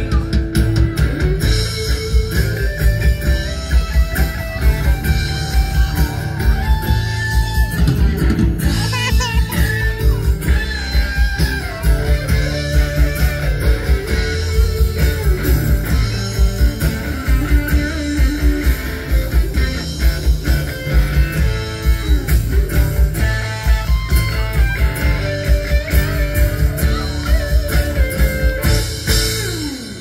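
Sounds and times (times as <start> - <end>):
drum kit beat: 0.0 - 30.0
electric bass: 0.0 - 30.0
electric guitar lead lines: 0.0 - 30.0
strummed acoustic guitar: 0.0 - 30.0.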